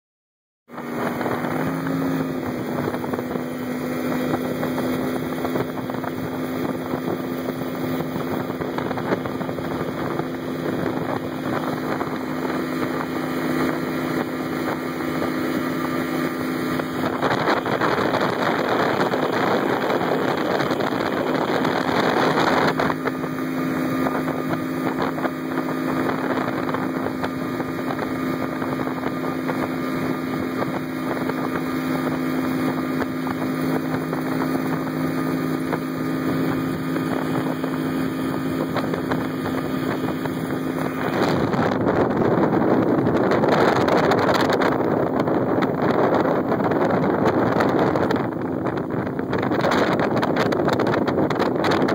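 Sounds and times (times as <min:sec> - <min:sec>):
outboard motor droning: 0:00.7 - 0:51.9
wind rushing over microphone: 0:00.7 - 0:51.9.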